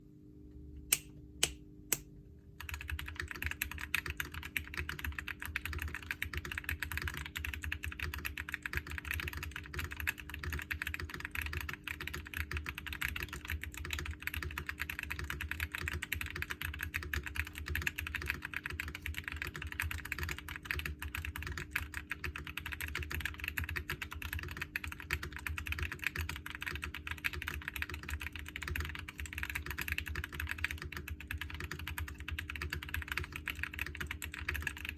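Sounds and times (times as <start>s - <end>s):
fast typing on mechanical keyboard: 2.6s - 34.9s.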